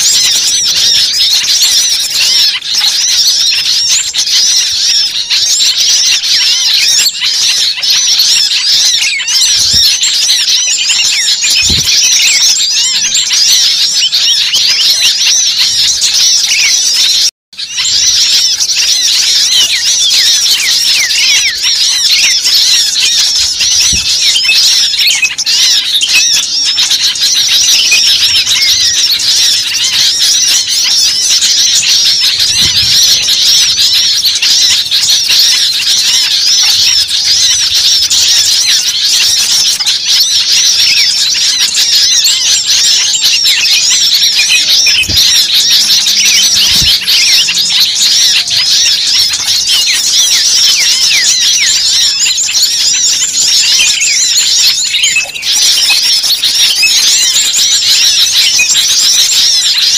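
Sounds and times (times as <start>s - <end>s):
chorus of small birds calling: 0.0s - 59.9s.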